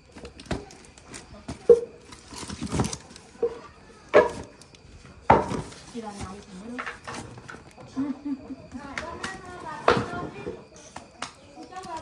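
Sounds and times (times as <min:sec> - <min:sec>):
cardboard and tape rustling: 0:00.0 - 0:07.9, 0:08.7 - 0:12.0.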